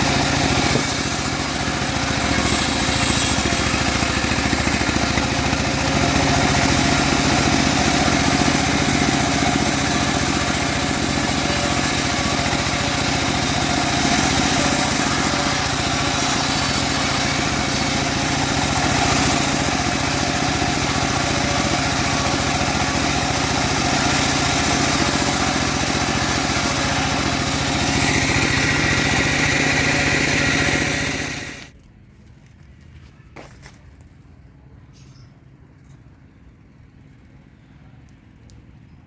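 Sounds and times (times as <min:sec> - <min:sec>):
bandsaw sawmill running: 0:00.0 - 0:31.8.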